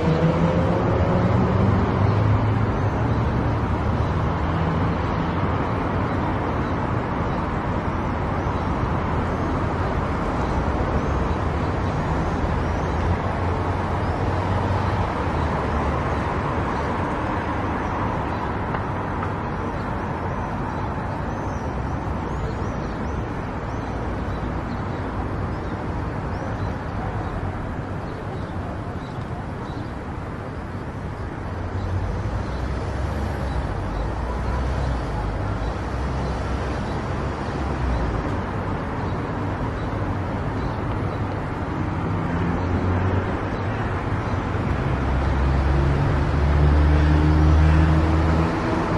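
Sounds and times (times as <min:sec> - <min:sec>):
road and tyre noise: 0:00.0 - 0:48.9.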